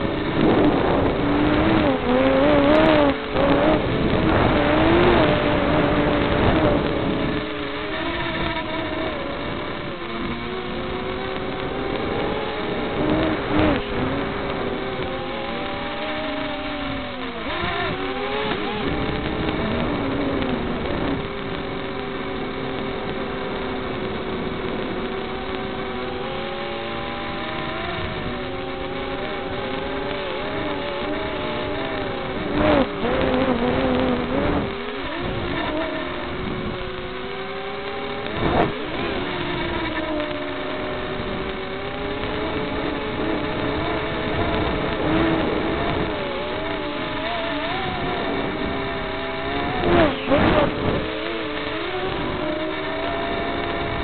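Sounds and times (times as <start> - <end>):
small drone motors whining: 0.0 - 54.0.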